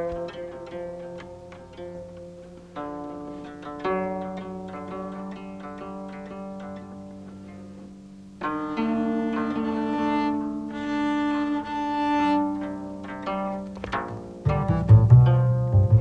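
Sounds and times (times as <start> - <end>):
cello bowed sustained notes: 0.0 - 16.0.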